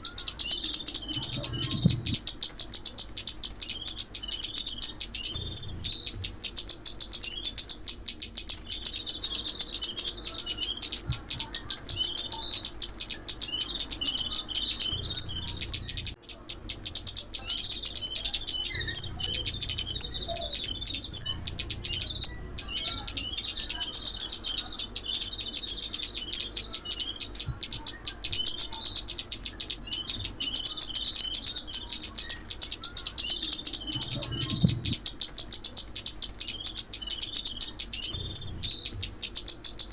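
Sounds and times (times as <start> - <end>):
recorded bird chirps: 0.0 - 39.9
thin high tone: 0.0 - 39.9.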